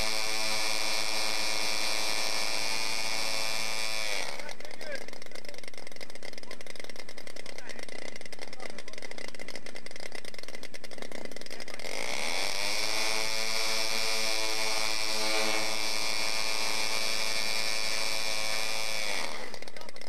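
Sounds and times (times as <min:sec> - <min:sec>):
model aircraft engine revving: 0:00.0 - 0:20.0.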